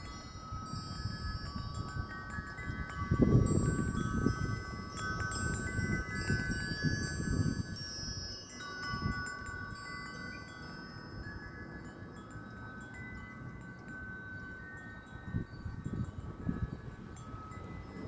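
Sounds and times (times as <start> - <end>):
wind chimes ringing: 0.0 - 18.0
wind rumbling on microphone: 0.0 - 18.0.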